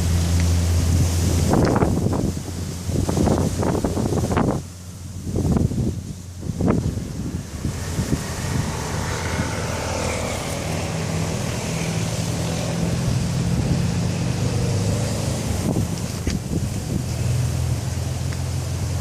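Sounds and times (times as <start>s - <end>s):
gale wind buffeting microphone: 0.0s - 19.0s
stormy sea rushing: 0.0s - 19.0s.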